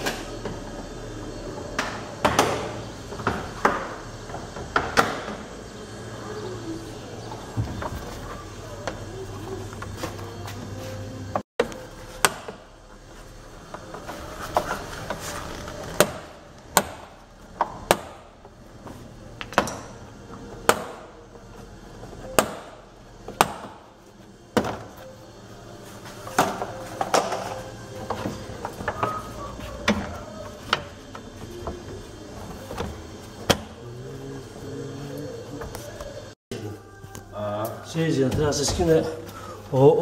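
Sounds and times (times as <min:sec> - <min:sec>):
faint music: 0:00.0 - 0:40.0.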